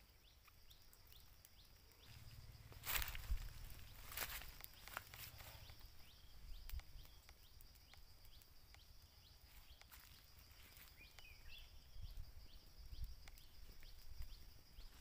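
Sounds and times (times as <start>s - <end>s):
embers ticking and crackling: 0.0s - 15.0s.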